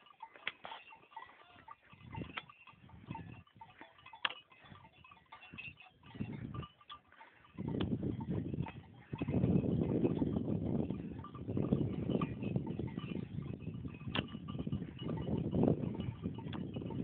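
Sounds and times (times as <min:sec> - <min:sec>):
goat heads clashing: 0:00.0 - 0:17.0.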